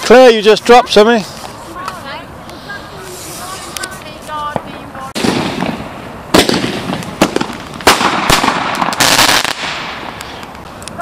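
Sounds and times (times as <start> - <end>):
fireworks hissing crackle: 0.0 - 11.0
fireworks bangs: 1.8 - 11.0.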